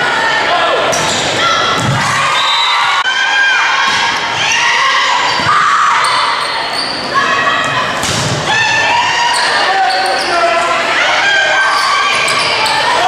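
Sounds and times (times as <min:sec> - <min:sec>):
people shouting and cheering: 0:00.0 - 0:13.0.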